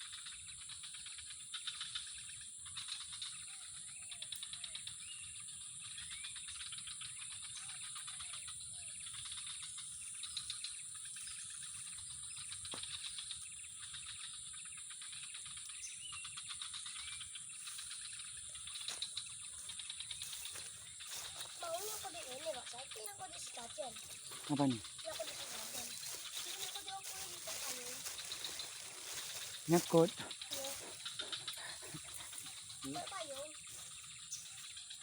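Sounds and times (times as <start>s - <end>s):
insect buzz with pulsing trill: 0.0s - 35.0s.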